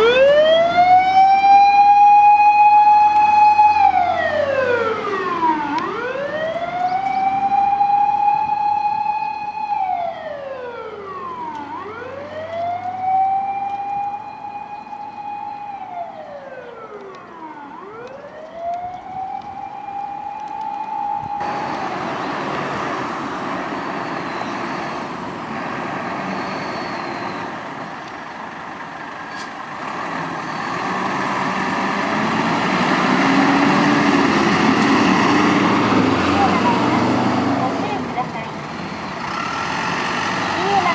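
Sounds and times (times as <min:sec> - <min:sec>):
motor siren wailing: 0:00.0 - 0:27.7, 0:30.5 - 0:40.9
road noise: 0:00.0 - 0:40.9
truck engine: 0:00.0 - 0:40.9.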